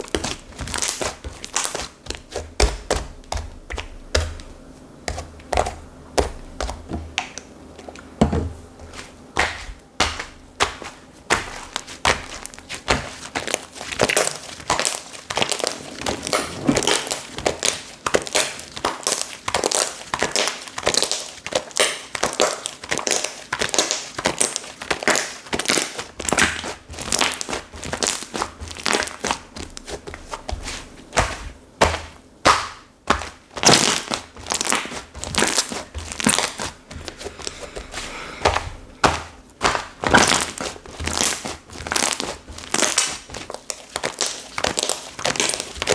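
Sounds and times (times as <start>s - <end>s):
slime squishing by hand: 0.0s - 45.9s.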